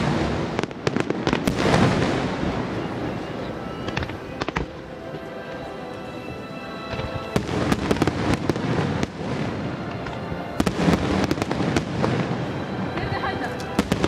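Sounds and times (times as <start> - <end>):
fireworks bangs and crackles: 0.0 - 5.7, 6.8 - 14.0
music with held notes: 0.6 - 14.0.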